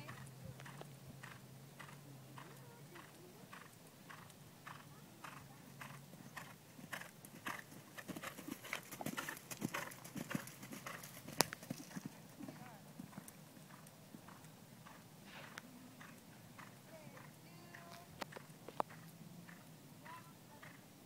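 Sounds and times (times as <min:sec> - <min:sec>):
horse hoofbeats on dirt: 0:00.0 - 0:20.8.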